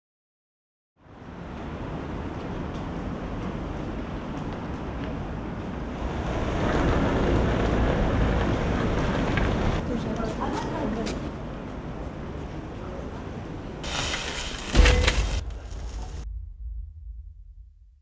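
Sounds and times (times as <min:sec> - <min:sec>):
traffic rumble: 0:01.0 - 0:17.9.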